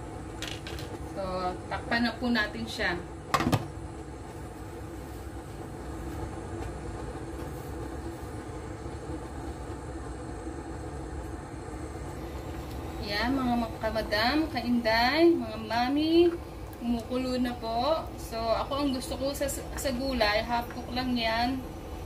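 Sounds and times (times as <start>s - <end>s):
pan rumbling and hissing: 0.0s - 22.0s.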